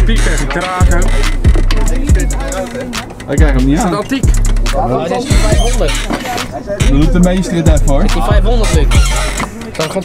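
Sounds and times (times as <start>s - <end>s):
deep bass drum beat: 0.0s - 2.6s, 3.3s - 6.1s, 6.8s - 9.4s
person rapping: 0.0s - 10.0s.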